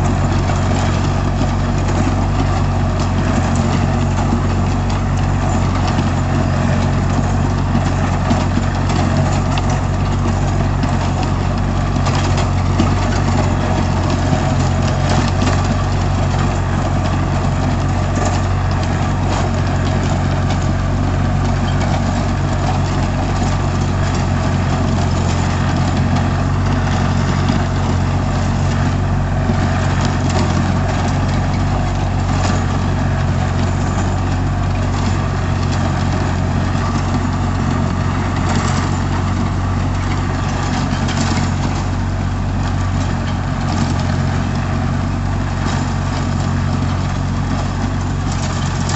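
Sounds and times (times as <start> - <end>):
rotavator clatter: 0.0 - 48.9
tractor diesel engine droning: 0.0 - 48.9.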